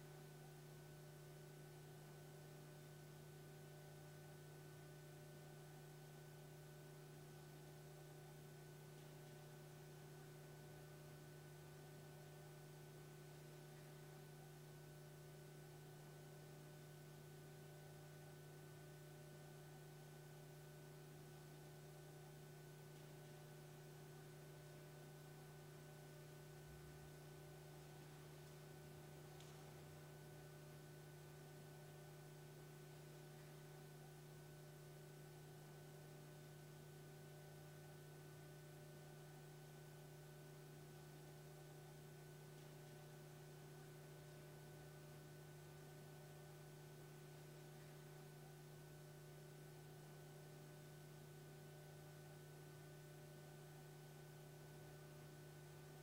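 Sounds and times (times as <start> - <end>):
faint electrical hum: 0.0 - 56.0
low hiss: 0.0 - 56.0.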